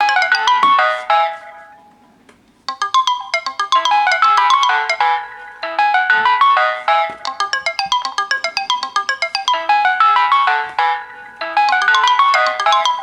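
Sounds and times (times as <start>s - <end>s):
phone alarm tones: 0.0s - 2.0s, 2.7s - 13.0s.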